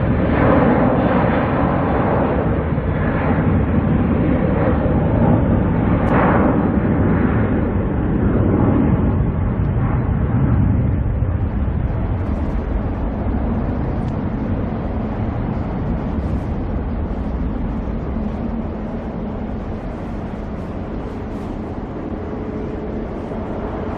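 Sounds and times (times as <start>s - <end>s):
jet engine roar: 0.0s - 23.9s.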